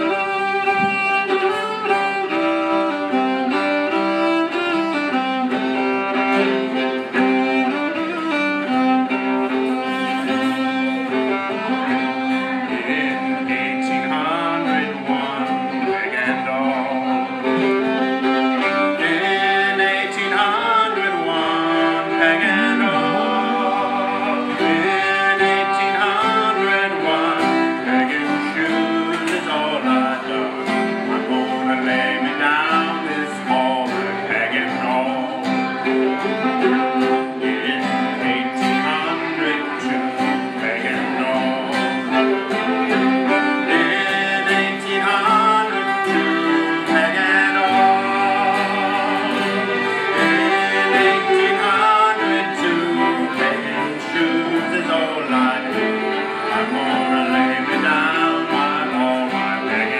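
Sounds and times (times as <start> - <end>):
fiddle playing: 0.0 - 59.9
man singing: 0.0 - 59.9.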